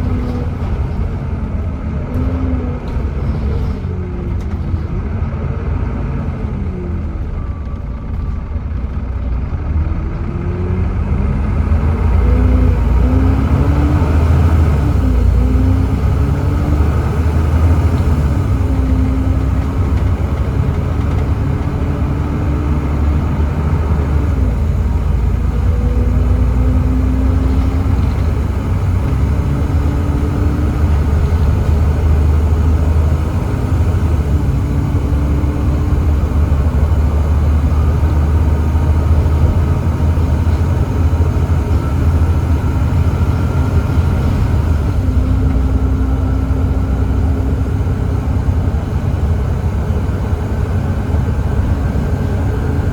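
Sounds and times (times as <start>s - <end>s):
bus engine rumbling: 0.0s - 52.9s.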